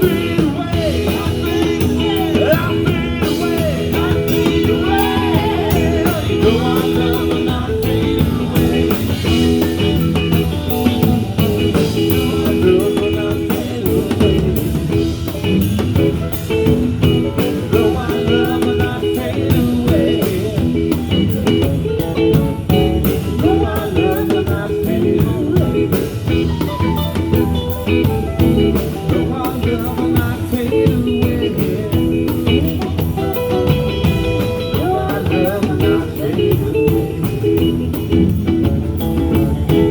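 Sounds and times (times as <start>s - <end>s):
drum kit steady beat: 0.0s - 39.9s
electric guitar: 0.0s - 39.9s.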